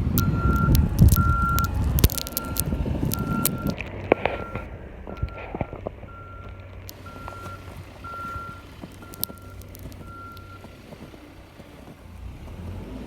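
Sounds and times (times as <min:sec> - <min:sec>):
reversing alarm beeping: 0:00.0 - 0:10.7
low engine hum: 0:00.0 - 0:13.0.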